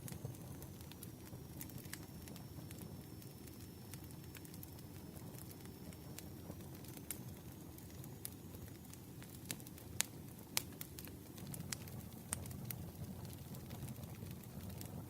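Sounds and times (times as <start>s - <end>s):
campfire crackling: 0.0s - 15.0s
sharp pops from fire: 0.0s - 15.0s.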